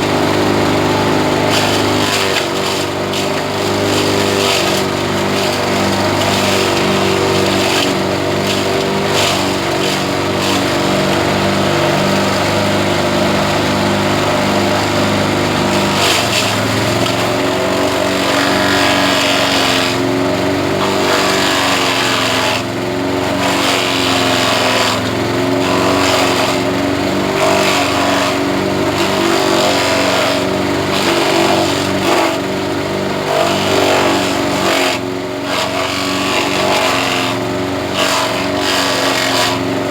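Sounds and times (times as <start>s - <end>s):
grass chopper engine running: 0.0s - 39.9s.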